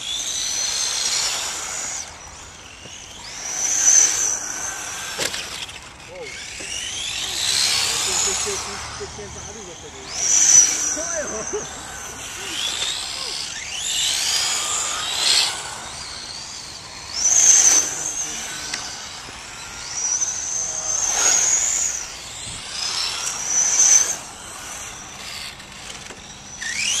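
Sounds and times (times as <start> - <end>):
toy car motors whining: 0.0 - 27.0.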